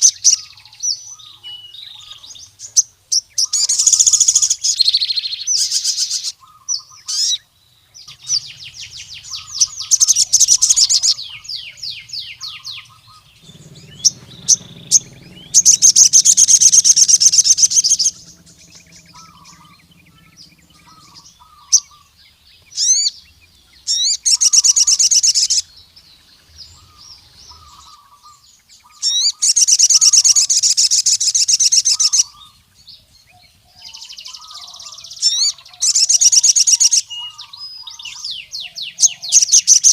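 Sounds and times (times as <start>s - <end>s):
bird trilling chirps: 0.0s - 39.9s.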